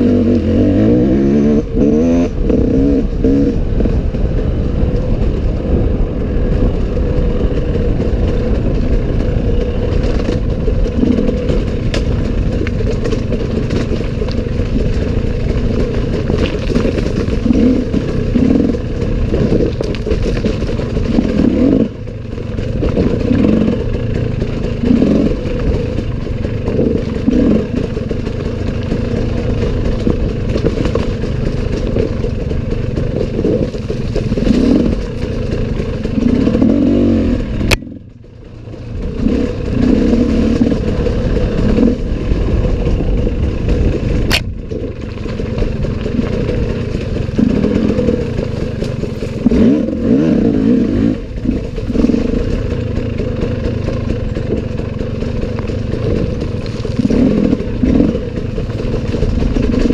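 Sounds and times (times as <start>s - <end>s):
clattering over rough terrain: 0.0s - 59.9s
dirt bike engine revving: 0.0s - 59.9s.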